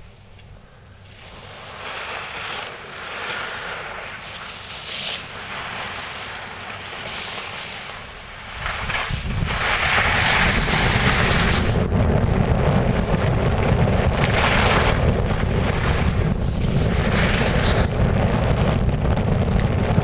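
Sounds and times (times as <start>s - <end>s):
skis sliding on snow: 1.0s - 19.2s
wind rushing over microphone: 1.1s - 20.0s.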